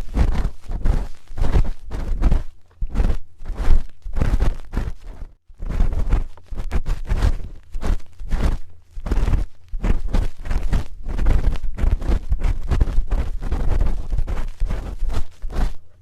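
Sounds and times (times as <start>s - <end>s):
low rumble of microphone handling: 0.0s - 16.0s.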